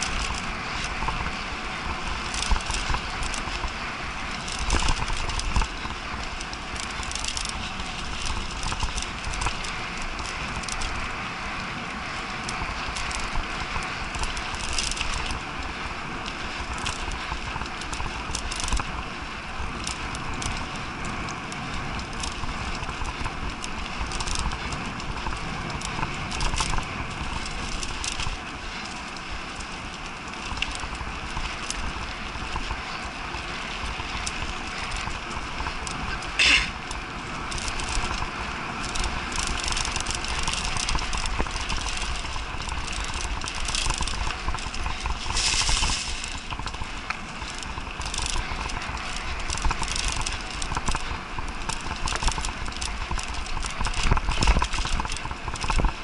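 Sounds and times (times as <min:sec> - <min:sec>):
bike rattling over bumps: 0:00.0 - 0:56.0
bike tyres on dirt trail: 0:00.0 - 0:56.0.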